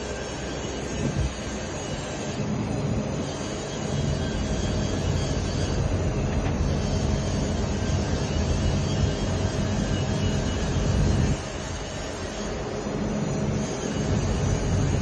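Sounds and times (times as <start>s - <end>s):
droning hum: 0.0s - 15.0s.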